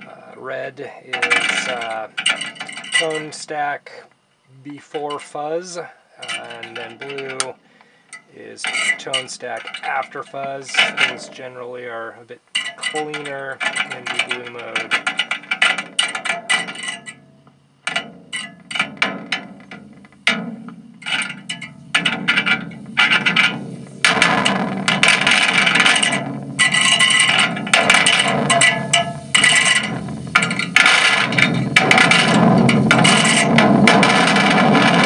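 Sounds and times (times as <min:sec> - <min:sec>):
distorted fuzz crackle: 0:00.0 - 0:35.0.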